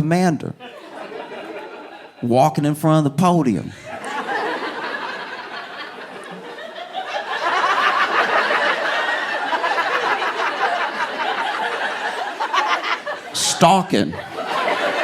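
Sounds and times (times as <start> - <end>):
audience laughing: 0.6 - 2.2, 3.7 - 15.0.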